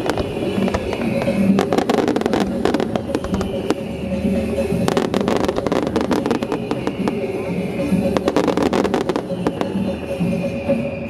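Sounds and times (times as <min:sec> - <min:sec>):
fireworks bangs and crackles: 0:00.0 - 0:10.7
music playing: 0:00.0 - 0:11.0.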